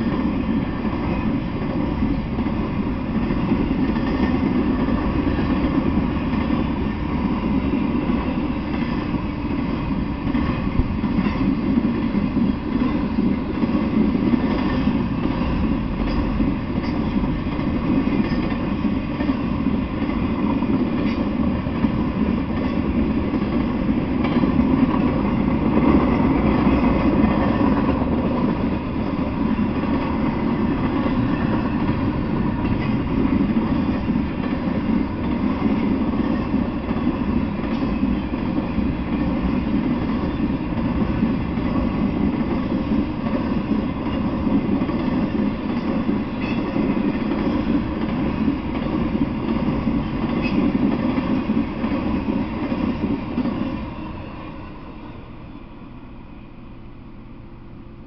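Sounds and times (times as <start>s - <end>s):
steel wheels on rails: 0.0s - 57.8s.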